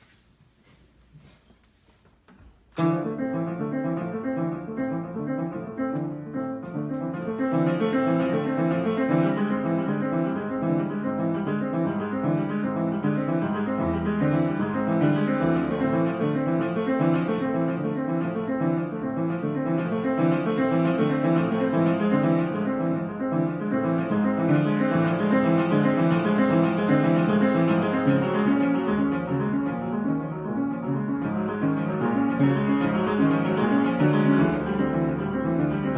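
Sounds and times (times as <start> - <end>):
piano broken-chord notes: 2.8 - 35.9.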